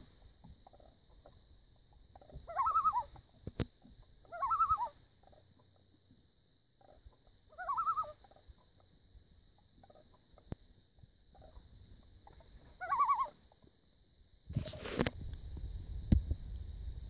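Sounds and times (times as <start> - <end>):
loon tremolo calls: 0.0 - 14.8.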